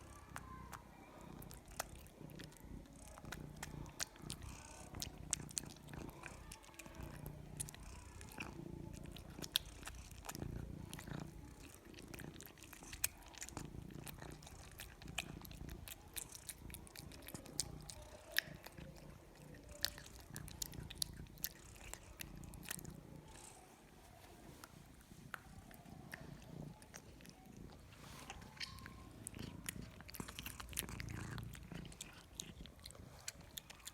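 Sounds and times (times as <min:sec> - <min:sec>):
cat purring: 0:00.0 - 0:33.9
cat crunching food: 0:00.1 - 0:23.6, 0:24.5 - 0:33.9.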